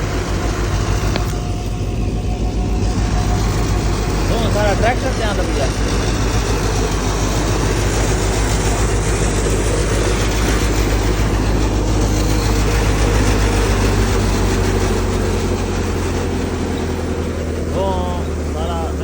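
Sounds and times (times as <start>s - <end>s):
threshing machine rushing: 0.0s - 19.0s
tractor engine drone: 0.0s - 19.0s.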